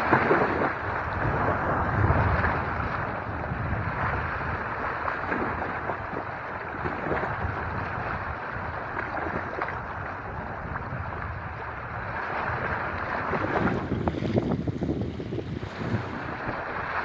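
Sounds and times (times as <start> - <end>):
waves lapping on rocks: 0.0 - 17.0
wind buffeting microphone: 0.0 - 17.0.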